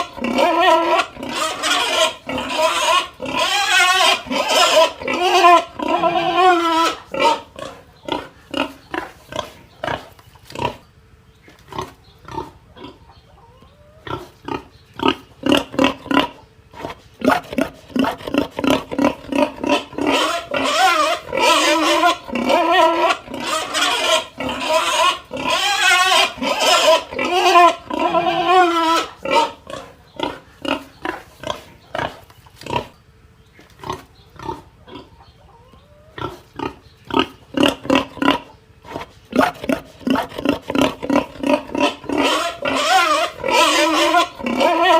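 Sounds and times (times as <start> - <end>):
pig grunting: 0.0 - 10.9, 11.6 - 33.0, 33.6 - 35.4, 36.0 - 44.9
pig squealing: 0.0 - 10.9, 11.7 - 33.0, 33.8 - 44.9.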